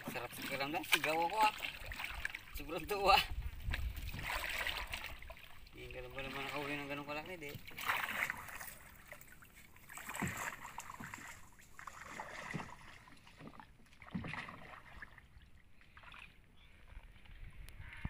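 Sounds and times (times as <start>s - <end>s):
water swishing and splashing: 0.0s - 18.0s.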